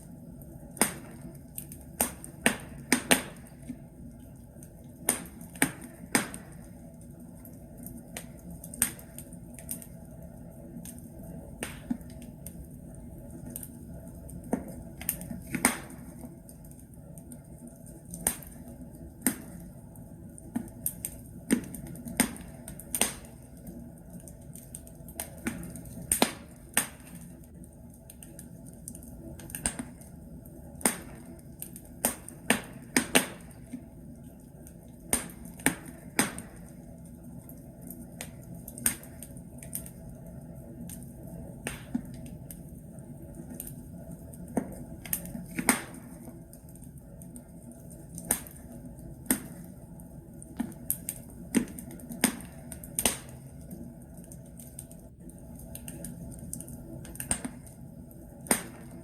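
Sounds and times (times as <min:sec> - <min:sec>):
logs crackling in fireplace: 0:00.0 - 0:59.0.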